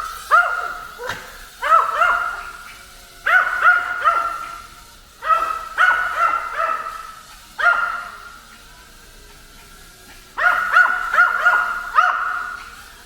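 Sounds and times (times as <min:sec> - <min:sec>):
dog barking: 0:00.2 - 0:08.4, 0:10.4 - 0:12.8.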